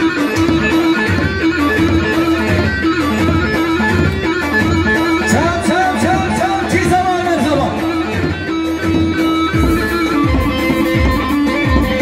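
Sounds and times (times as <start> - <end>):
folk melody: 0.0 - 12.0
steady drum beat: 0.0 - 12.0.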